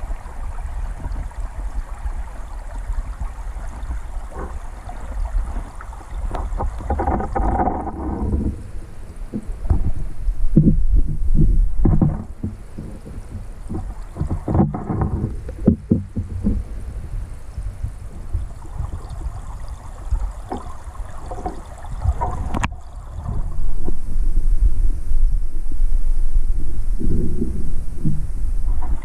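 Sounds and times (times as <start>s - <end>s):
muffled underwater stream rumble: 0.0s - 29.0s.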